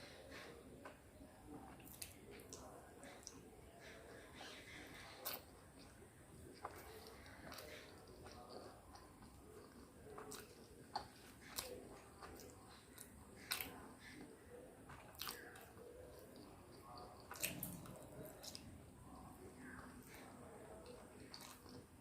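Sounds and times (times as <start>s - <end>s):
wet chewing: 0.3s - 22.0s.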